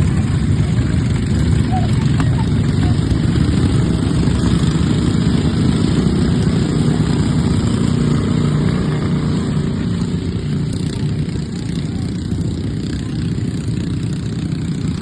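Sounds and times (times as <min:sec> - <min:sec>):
lawnmower engines running: 0:00.0 - 0:15.0.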